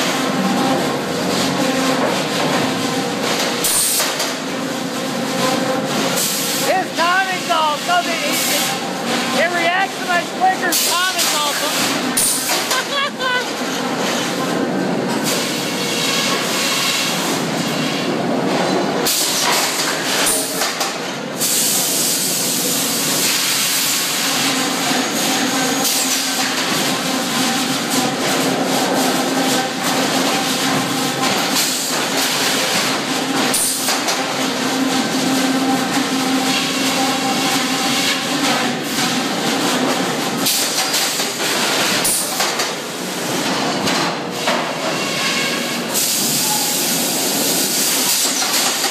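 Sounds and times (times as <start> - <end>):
sawmill carriage clanking and hissing: 0.0 - 48.9.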